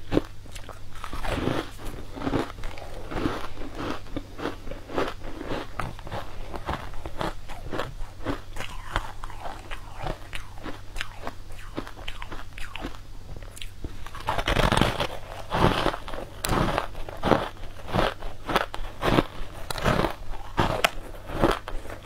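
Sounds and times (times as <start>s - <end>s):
crunching frozen blocks: 1.0s - 11.3s, 13.6s - 22.0s.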